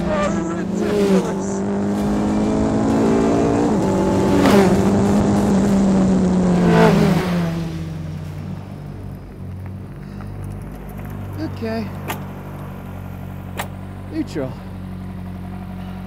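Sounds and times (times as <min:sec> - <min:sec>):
racing engine at high revs: 0:00.0 - 0:16.0.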